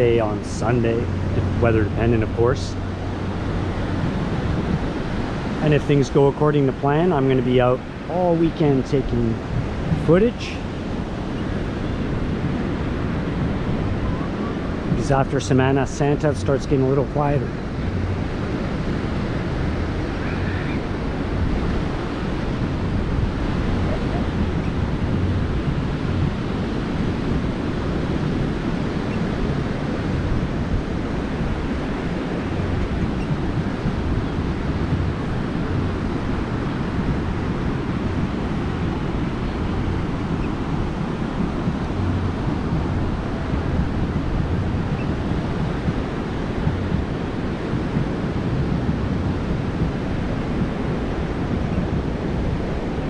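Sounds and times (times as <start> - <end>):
ocean surf breaking: 0.0 - 53.0
wind buffeting microphone: 0.0 - 53.0.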